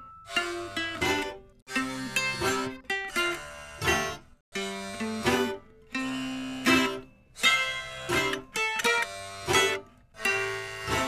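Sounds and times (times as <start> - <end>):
plucked string instrument chords: 0.0 - 11.0.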